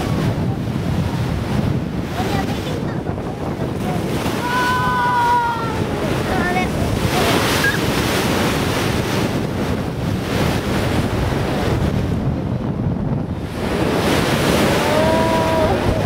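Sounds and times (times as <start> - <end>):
rushing water: 0.0 - 16.0
wind buffeting microphone: 0.0 - 16.0.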